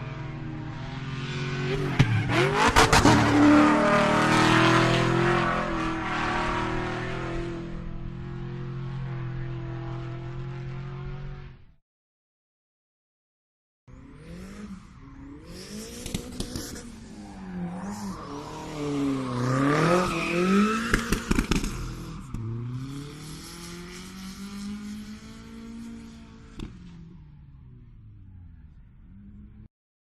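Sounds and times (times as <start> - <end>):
car engine revving: 0.0 - 11.7, 13.9 - 29.7.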